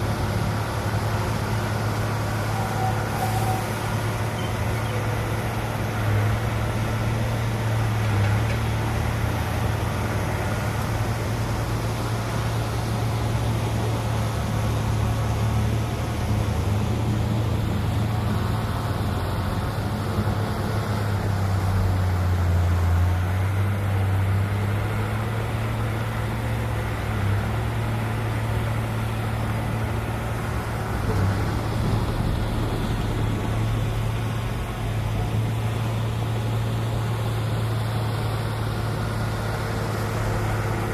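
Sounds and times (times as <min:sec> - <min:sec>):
heavy diesel engine droning: 0:00.0 - 0:40.9.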